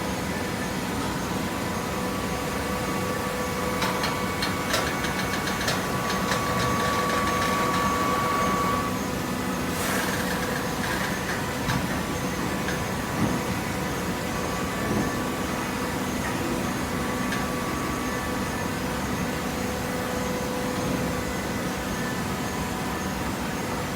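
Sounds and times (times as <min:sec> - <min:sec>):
baler motor and pump hum: 0:00.0 - 0:23.9.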